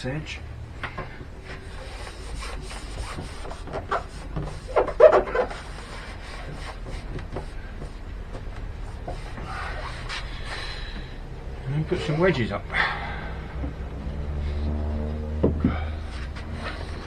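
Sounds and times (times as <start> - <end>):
acrylic and wood rubbing and knocking: 0.6 - 17.0.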